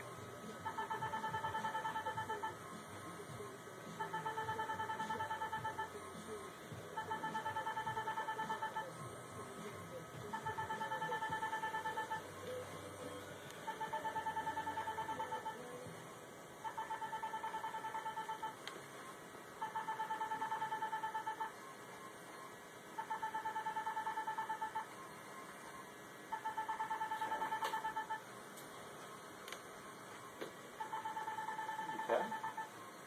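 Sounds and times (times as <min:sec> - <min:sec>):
rapid machine beeps: 0:00.0 - 0:16.0, 0:16.6 - 0:28.4, 0:29.1 - 0:33.0.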